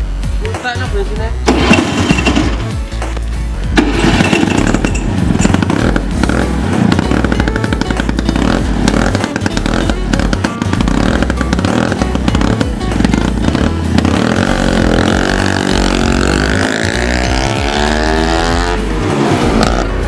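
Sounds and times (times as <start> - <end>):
scooter two-stroke engine running: 0.0 - 20.0.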